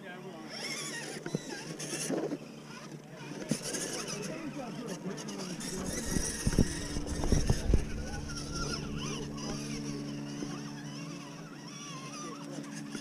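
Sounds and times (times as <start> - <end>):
low motor hum: 0.7 - 13.0.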